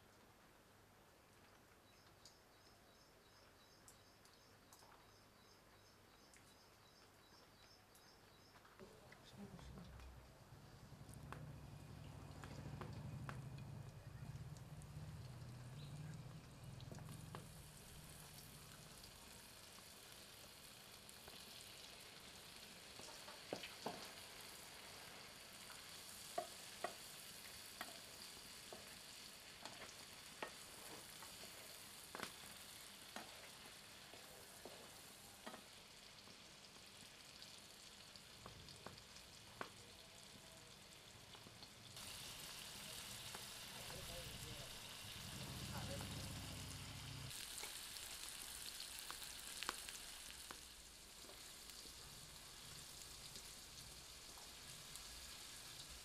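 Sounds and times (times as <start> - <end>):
cheese cubes sizzling in oil: 10.5 - 56.0.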